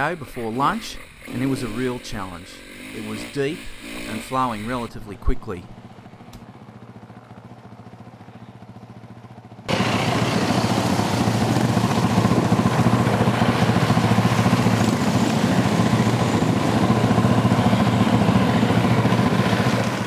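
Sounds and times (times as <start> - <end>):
dirt bike engines running: 0.0 - 20.0.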